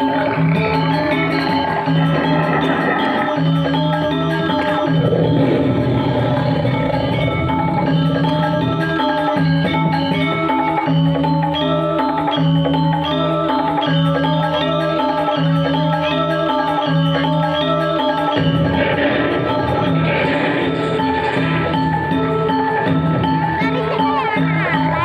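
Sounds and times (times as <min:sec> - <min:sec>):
gamelan music: 0:00.0 - 0:25.0.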